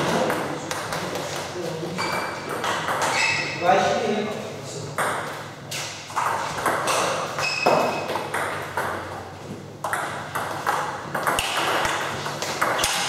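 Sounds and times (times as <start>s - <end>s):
table tennis ball hits: 0.0s - 3.2s, 5.0s - 13.0s.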